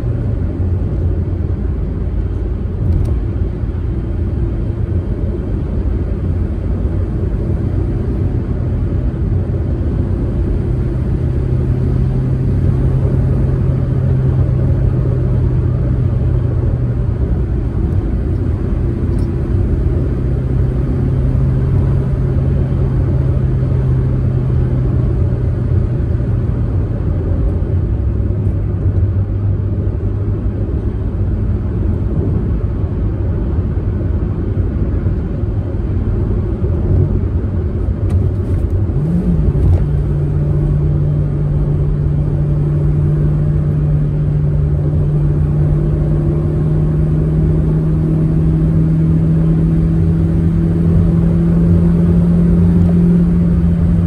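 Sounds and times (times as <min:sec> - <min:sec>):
car engine running: 0:00.0 - 0:54.0
tyre and road rumble: 0:00.0 - 0:54.0.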